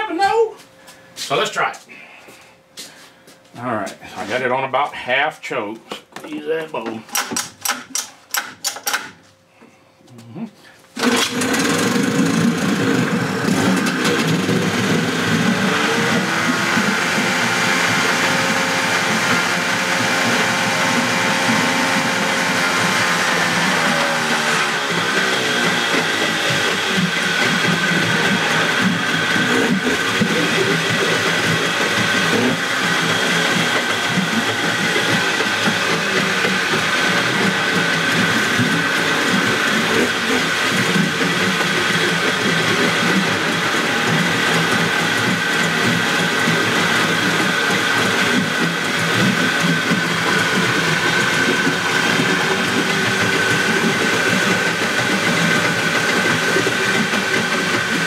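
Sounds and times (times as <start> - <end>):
outboard motor running: 11.0 - 58.0.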